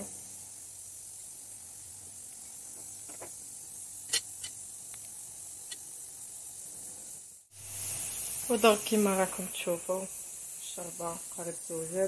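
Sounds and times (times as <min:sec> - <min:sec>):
pot simmering hiss: 0:00.0 - 0:12.0.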